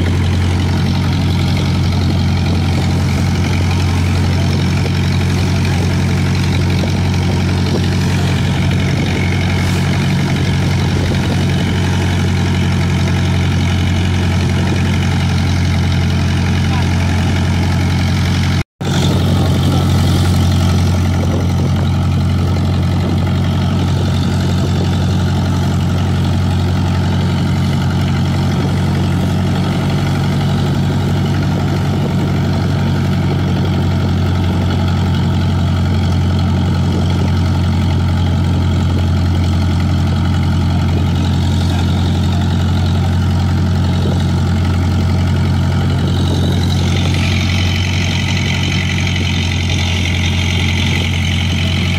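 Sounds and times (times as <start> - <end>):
boat engine humming: 0.0 - 51.9.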